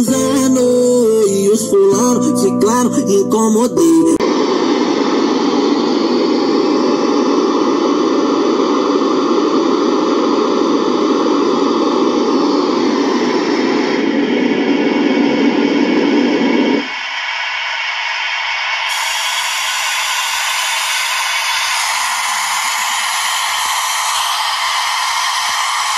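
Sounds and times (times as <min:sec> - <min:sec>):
static hiss: 0:02.9 - 0:25.9.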